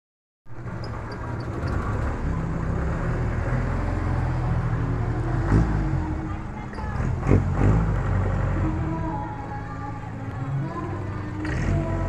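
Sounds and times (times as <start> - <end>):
diesel engine idling: 0.5 - 12.0.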